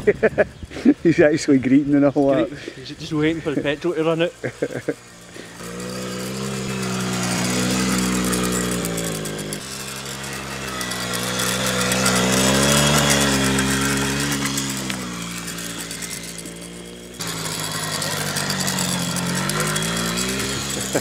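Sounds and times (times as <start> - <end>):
quad bike engine revving: 2.2 - 21.0.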